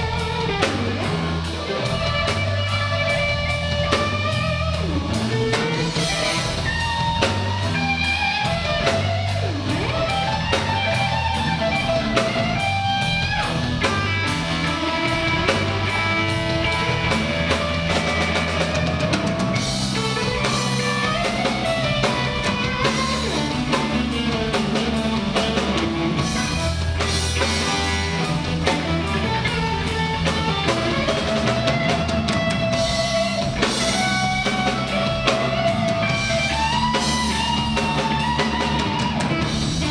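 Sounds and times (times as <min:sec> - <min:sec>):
drum kit with cymbal strokes: 0:00.0 - 0:39.9
electric guitar solo: 0:00.0 - 0:39.9
low bass notes: 0:00.0 - 0:39.9.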